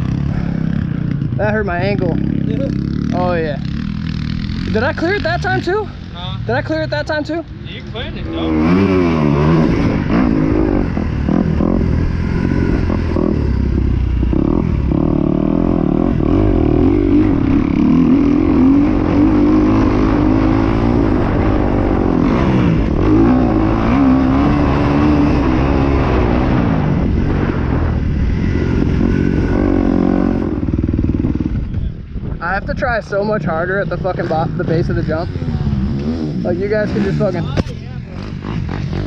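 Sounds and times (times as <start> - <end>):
dirt bike engine revving: 0.0 - 31.8, 32.4 - 39.0.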